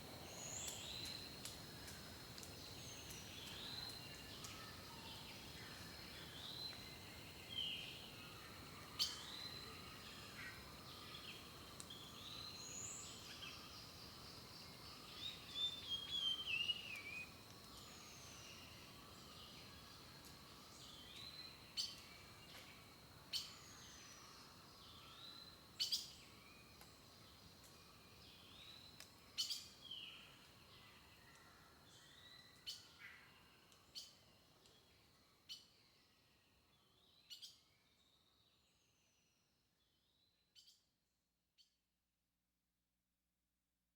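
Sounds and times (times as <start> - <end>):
faint steady hiss: 0.0 - 37.4.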